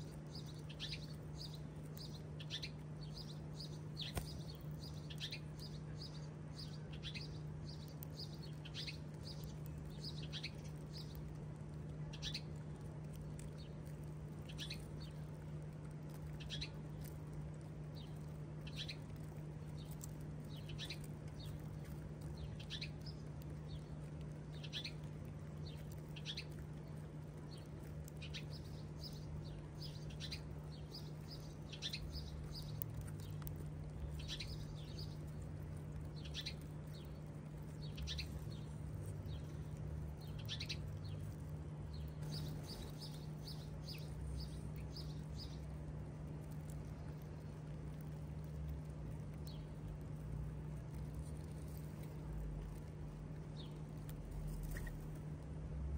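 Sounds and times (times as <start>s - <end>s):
sparrows chirping: 0.0s - 55.9s
steady low hum: 0.0s - 55.9s.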